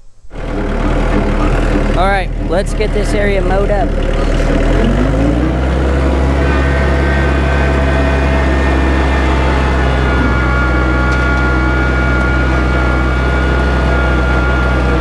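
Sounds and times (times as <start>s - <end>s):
tractor diesel engine revving: 0.3s - 15.0s.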